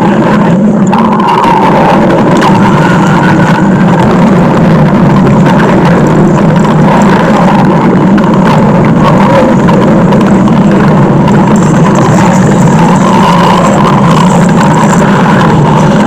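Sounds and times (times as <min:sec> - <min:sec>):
stomach growl rumble: 0:00.0 - 0:16.0.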